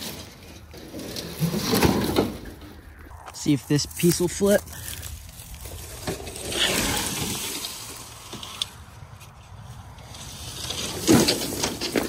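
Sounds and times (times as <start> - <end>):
rustling in dry leaves: 0.0 - 12.0.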